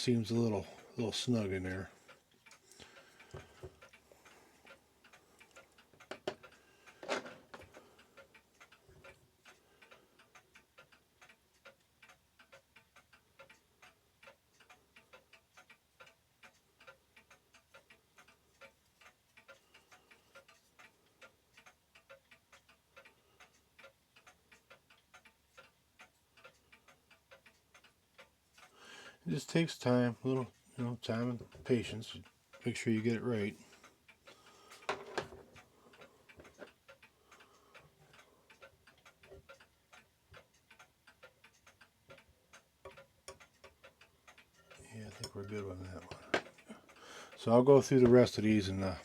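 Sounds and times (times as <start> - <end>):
mechanical clock ticking: 0.0 - 49.0.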